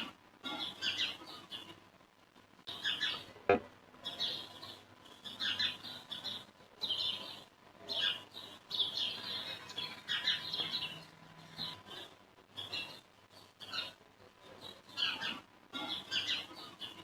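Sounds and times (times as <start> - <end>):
birds chirping: 0.0 - 1.8, 2.7 - 17.0.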